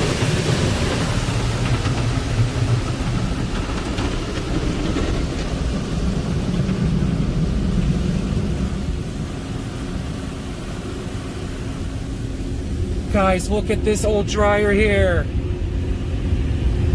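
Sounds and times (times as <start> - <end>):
car wash machinery rumble: 0.0 - 16.9.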